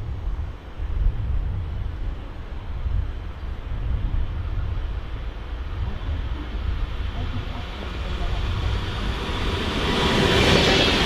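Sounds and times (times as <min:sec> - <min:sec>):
train rumbling: 0:00.0 - 0:11.0
wind rumbling on microphone: 0:00.0 - 0:11.0.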